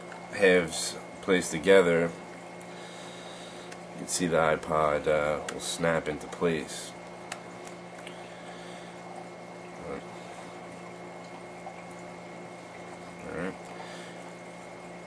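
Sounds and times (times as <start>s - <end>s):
low electrical hum and hiss: 0.0s - 15.0s.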